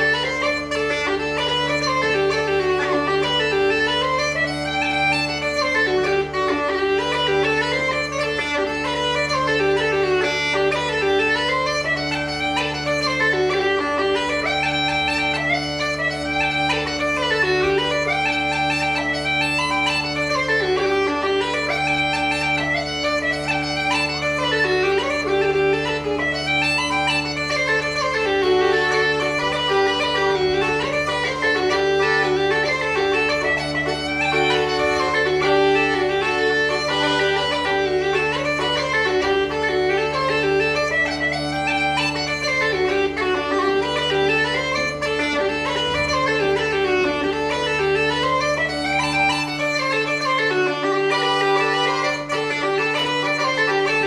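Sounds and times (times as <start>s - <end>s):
uilleann pipes playing a jig: 0.0s - 54.0s.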